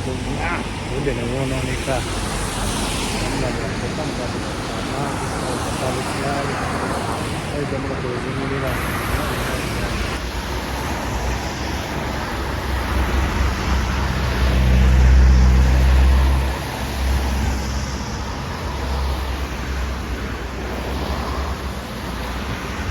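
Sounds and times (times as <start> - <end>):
car passing: 0.0 - 22.9
road traffic noise: 0.0 - 22.9.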